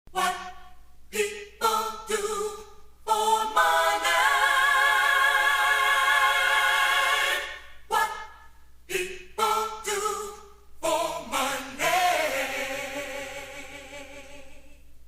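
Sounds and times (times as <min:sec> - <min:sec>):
voices singing a cappella harmony: 0:00.1 - 0:15.0.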